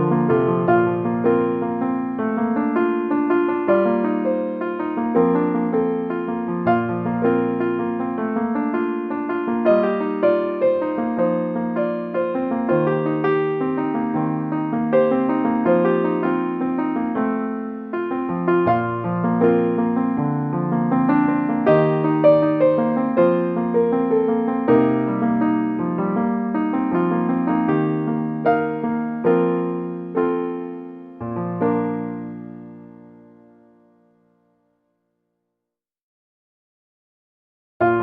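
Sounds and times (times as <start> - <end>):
slow solo piano melody: 0.0 - 34.7.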